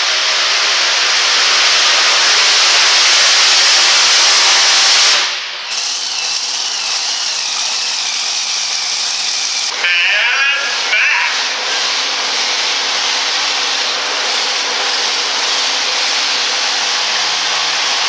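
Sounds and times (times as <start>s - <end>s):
engine high whine: 0.0s - 18.0s
truck engine roaring under load: 0.0s - 18.0s.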